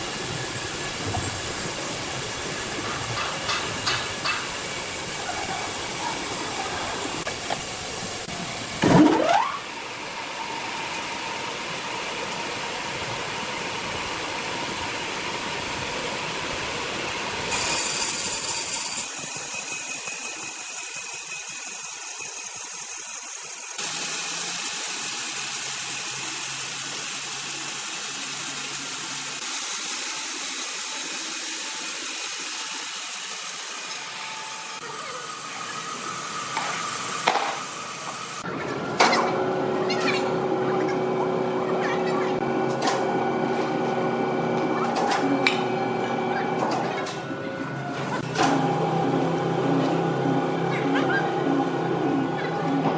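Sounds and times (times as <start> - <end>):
sawmill saws and motors cutting timber: 0.0 - 8.6, 9.8 - 52.9.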